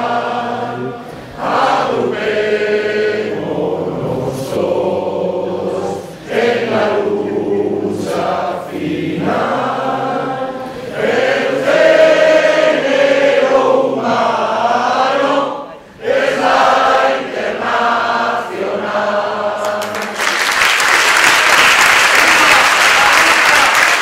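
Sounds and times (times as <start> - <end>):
choir singing a slow song: 0.0 - 20.2.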